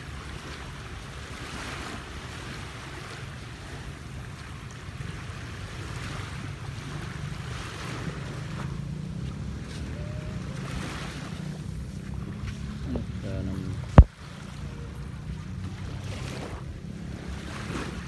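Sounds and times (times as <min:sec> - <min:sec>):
small waves washing on sand: 0:00.0 - 0:18.0
wind rumble on microphone: 0:00.0 - 0:18.0.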